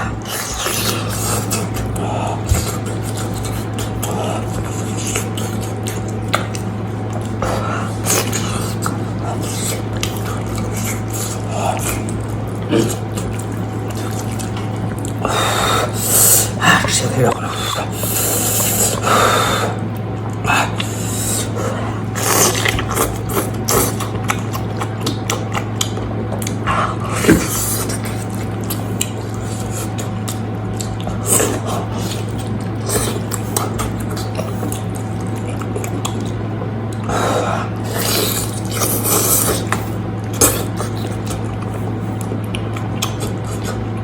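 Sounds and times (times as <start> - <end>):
chewing with wet smacking: 0.0 - 44.0
steady low hum: 0.0 - 44.0.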